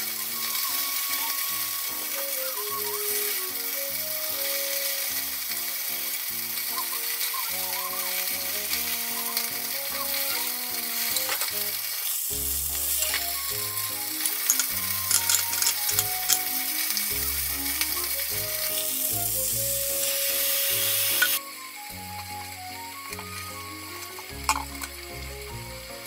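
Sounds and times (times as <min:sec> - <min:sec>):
food sizzling in frying pan: 0:00.0 - 0:26.0
slow melodic background music: 0:00.0 - 0:26.0.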